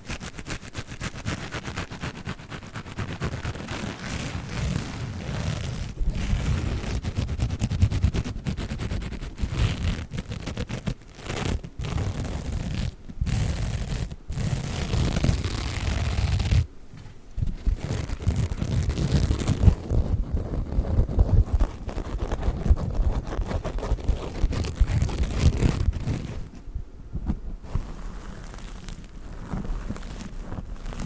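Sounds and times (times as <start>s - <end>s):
sponges crinkling and scratching: 0.0s - 16.6s, 17.4s - 26.6s, 27.6s - 31.0s.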